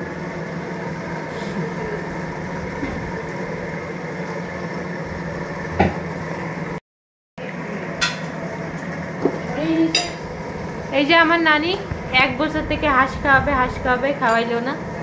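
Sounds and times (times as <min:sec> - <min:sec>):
mechanical hum: 0:00.0 - 0:06.8, 0:07.4 - 0:15.0.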